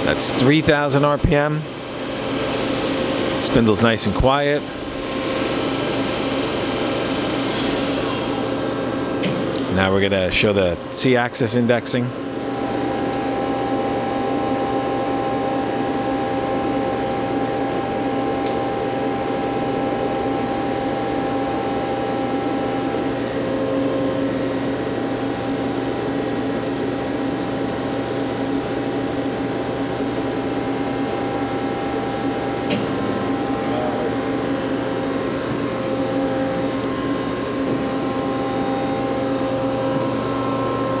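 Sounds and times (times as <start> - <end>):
lathe machine hum: 0.0 - 41.0.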